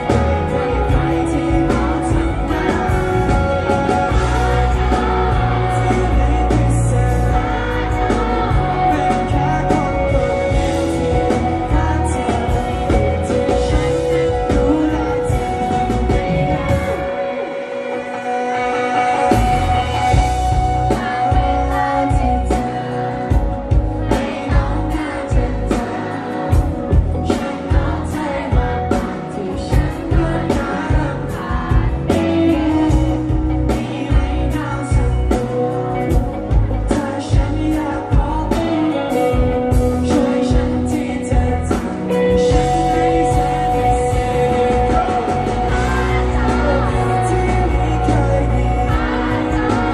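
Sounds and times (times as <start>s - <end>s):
steady drum beat: 0.0s - 17.1s, 19.1s - 49.9s
electric guitar: 0.0s - 49.9s
man singing: 0.0s - 49.9s.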